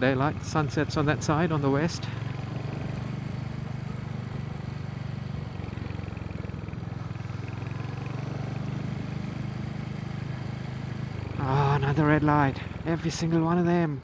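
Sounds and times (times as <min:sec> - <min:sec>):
motorcycle engine idling steadily: 0:00.0 - 0:13.8.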